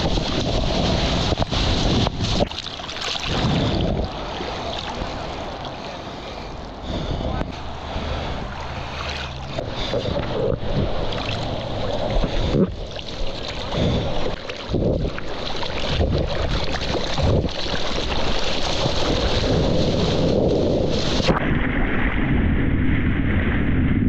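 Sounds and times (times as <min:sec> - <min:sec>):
wind on microphone: 0:00.0 - 0:05.8, 0:06.8 - 0:24.0
water splashing and sloshing: 0:00.0 - 0:22.2.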